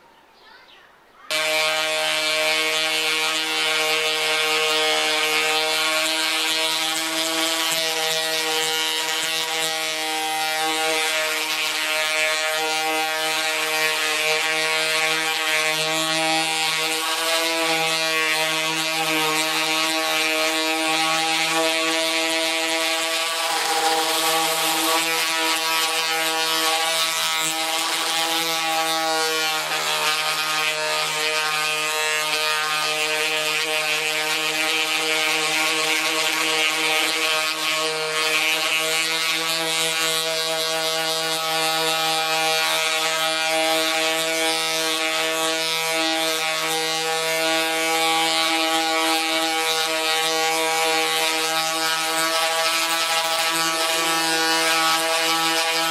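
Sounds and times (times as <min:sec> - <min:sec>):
orbital sander on metal: 0:01.3 - 0:55.9.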